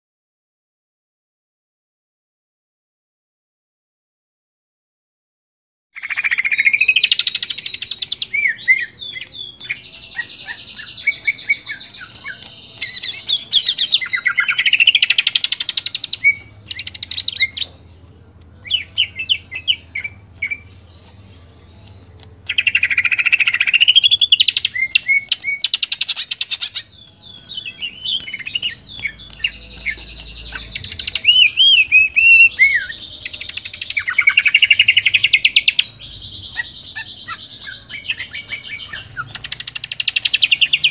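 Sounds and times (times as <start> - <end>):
bird singing trills and whistles: 6.0 - 17.8, 18.6 - 40.9.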